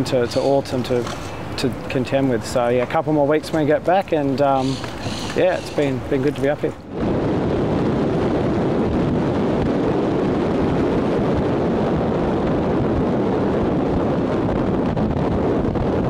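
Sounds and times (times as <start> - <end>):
wind and water rushing past boat: 0.0 - 16.0.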